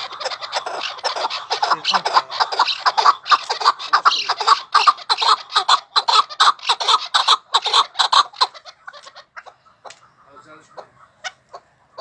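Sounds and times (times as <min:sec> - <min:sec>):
partridge calling: 0:00.0 - 0:12.0.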